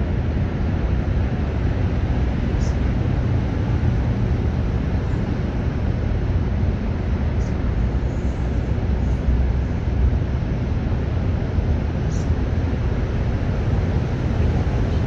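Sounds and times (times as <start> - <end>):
low rumble of outdoor noise: 0.0 - 15.0.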